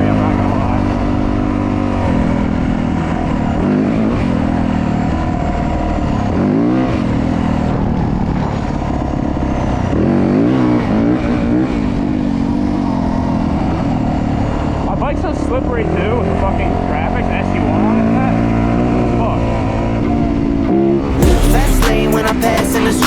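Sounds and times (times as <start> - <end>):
dirt bike engine revving: 0.0 - 15.0, 17.6 - 23.0.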